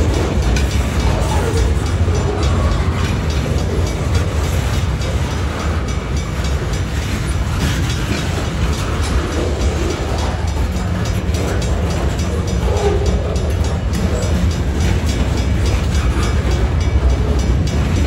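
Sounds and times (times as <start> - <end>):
steel wheels rumbling on rail: 0.0 - 18.0
wheels clicking over rail joints: 0.0 - 18.0.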